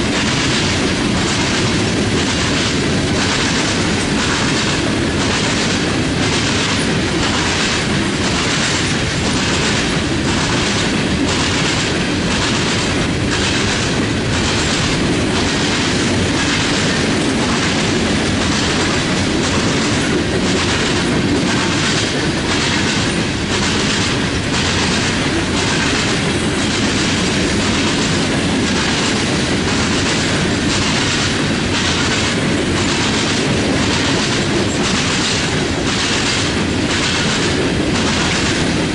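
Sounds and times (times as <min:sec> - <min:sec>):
train cars rumbling: 0:00.0 - 0:38.9
train wheels clacking over rail joints: 0:00.0 - 0:38.9.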